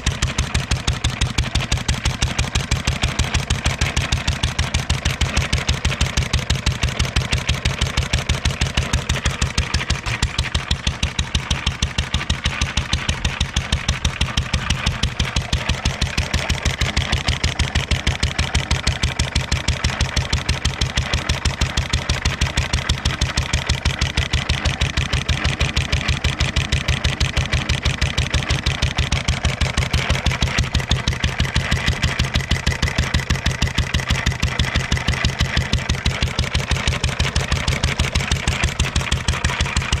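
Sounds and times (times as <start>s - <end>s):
stationary engine running: 0.0s - 40.0s.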